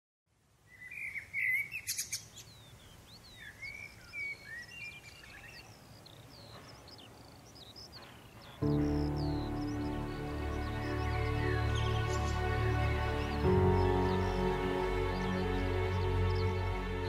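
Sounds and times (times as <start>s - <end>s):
songbirds chirping and singing: 0.7s - 17.0s.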